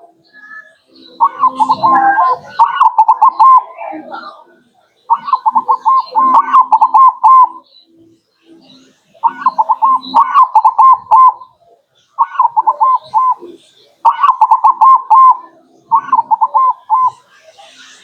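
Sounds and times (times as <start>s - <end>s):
dove cooing song: 0.0s - 18.0s.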